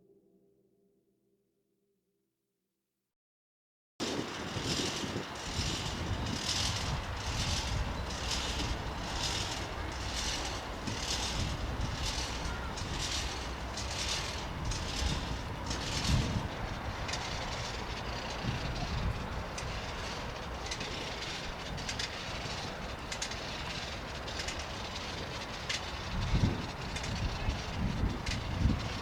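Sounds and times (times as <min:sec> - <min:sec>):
mechanical rumble: 0:04.2 - 0:29.0.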